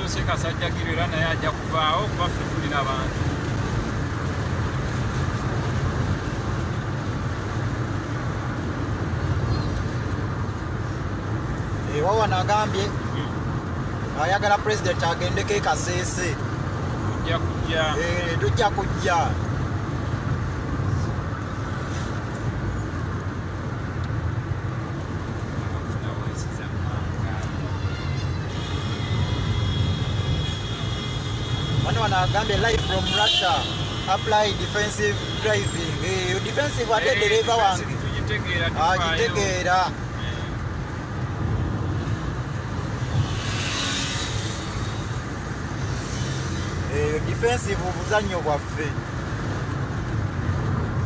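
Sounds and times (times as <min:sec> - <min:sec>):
car road and engine rumble: 0:00.0 - 0:51.0.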